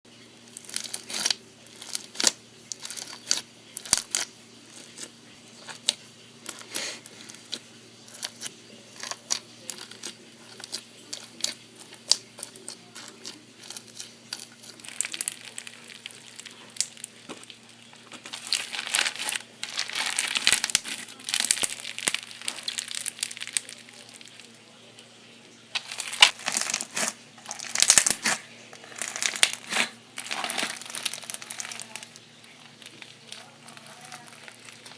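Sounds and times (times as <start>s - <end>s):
foam slime crackling and popping: 0.2s - 24.6s, 25.7s - 34.9s.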